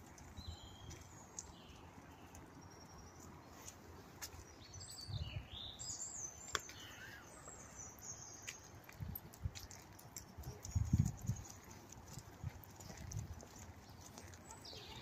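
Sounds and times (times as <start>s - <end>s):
songbird singing: 0.0s - 9.8s, 10.4s - 15.0s.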